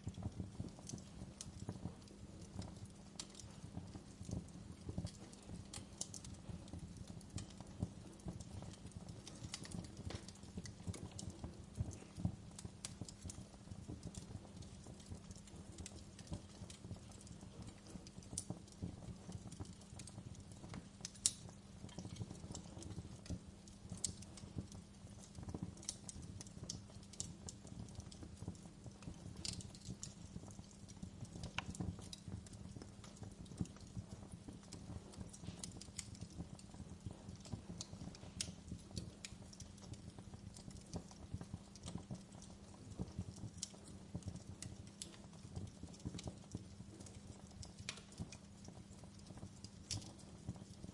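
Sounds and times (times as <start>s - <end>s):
fire low rumble: 0.0s - 50.9s
wood fire crackling: 0.0s - 50.9s.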